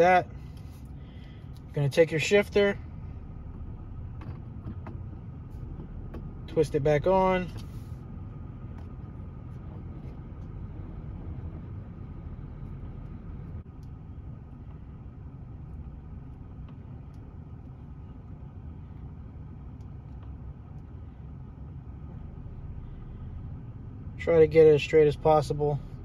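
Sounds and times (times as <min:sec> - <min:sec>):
low rumble inside vehicle cab: 0:00.0 - 0:26.0.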